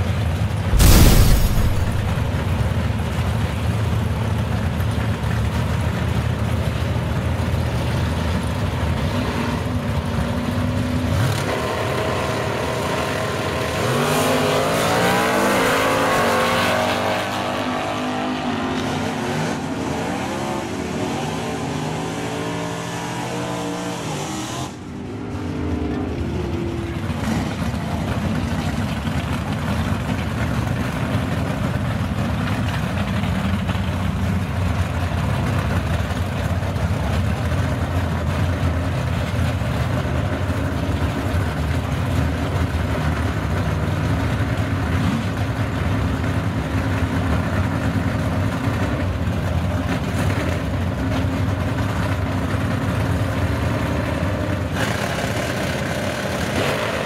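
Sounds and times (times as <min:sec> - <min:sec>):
drag car engines accelerating: 0:00.0 - 0:57.0.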